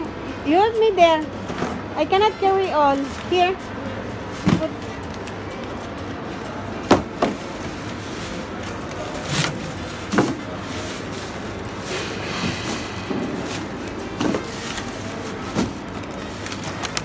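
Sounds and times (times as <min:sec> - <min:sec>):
background hubbub: 0:00.0 - 0:17.0.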